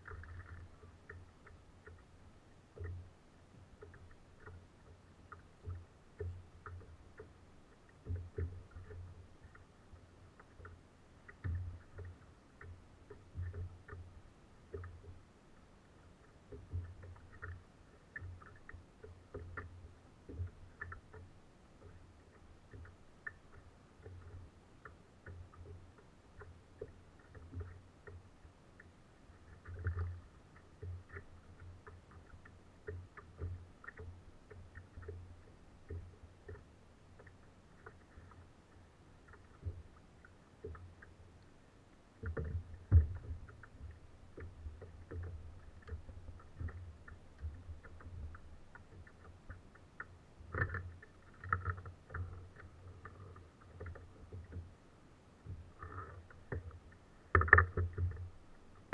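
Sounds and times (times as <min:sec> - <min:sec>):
waves lapping against kayak hull: 0:00.0 - 0:58.9.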